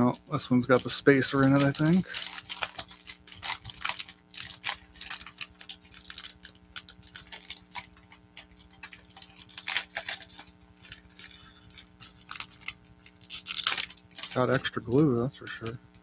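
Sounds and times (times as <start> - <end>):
faint steady hum: 0.0 - 16.0
cards clicking and crackling: 0.7 - 16.0.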